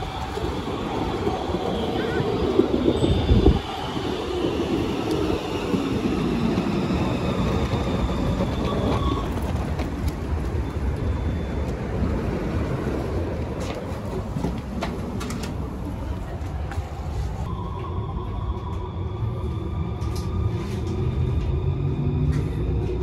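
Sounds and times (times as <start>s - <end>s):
tram motors whining: 0.0s - 23.0s.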